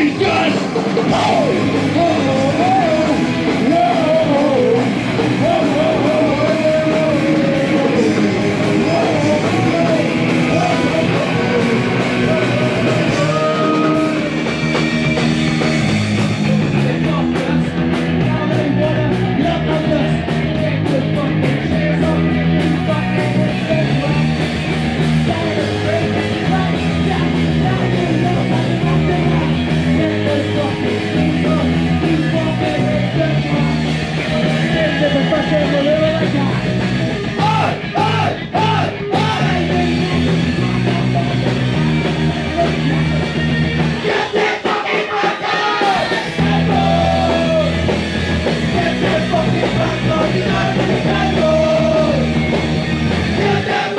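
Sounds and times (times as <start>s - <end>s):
person singing: 0.0s - 14.8s, 16.4s - 43.4s, 44.0s - 52.4s, 53.3s - 53.9s
punk rock band playing: 0.0s - 53.9s.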